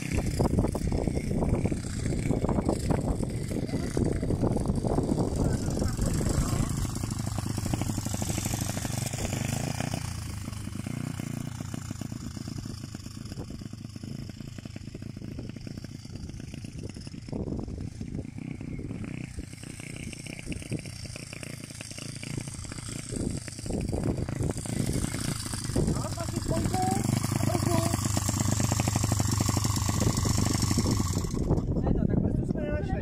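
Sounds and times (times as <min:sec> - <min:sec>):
motorbike engine running: 0:00.0 - 0:33.0.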